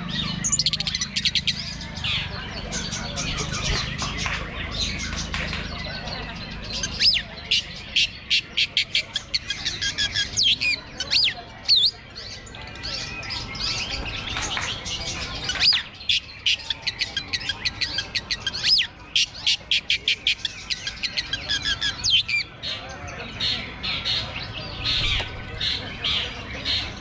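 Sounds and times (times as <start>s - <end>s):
bird chattering song: 0.0s - 27.0s.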